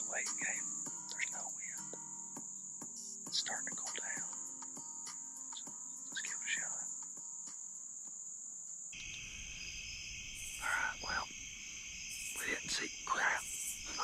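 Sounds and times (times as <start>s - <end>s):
insect chirps: 0.0s - 14.0s
insect chorus drone: 0.0s - 14.0s.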